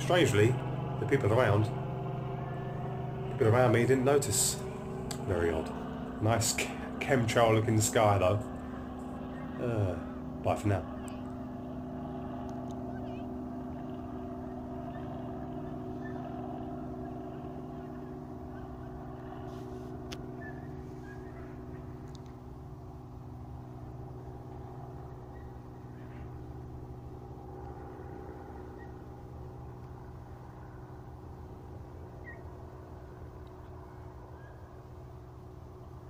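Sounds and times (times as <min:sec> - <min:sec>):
helicopter droning overhead: 0:00.0 - 0:36.0.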